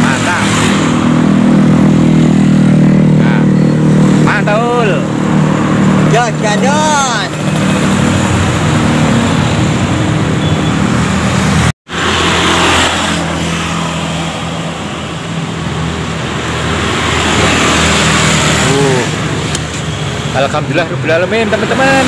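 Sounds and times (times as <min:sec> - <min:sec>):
motorbike and car engines passing: 0:00.0 - 0:22.0
road noise: 0:00.0 - 0:22.0.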